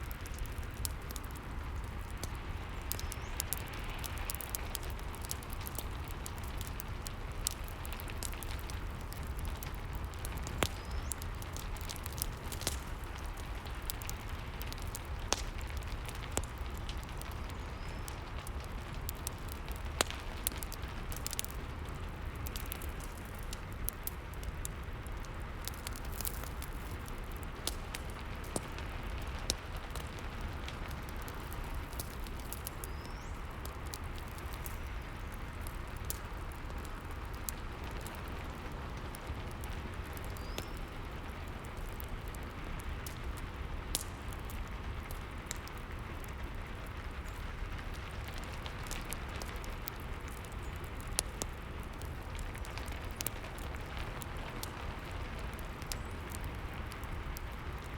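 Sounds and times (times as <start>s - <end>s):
fire crackling and popping: 0.0s - 57.9s.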